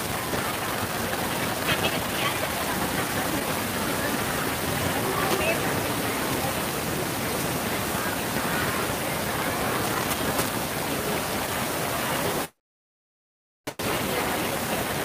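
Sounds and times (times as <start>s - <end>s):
faint indistinct voices: 0.0s - 12.5s, 13.7s - 15.0s.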